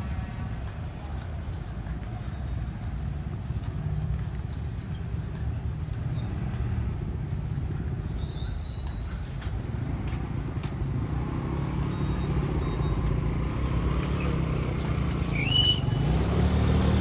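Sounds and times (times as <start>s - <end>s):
motorcycle and road traffic rumble: 0.0s - 17.0s.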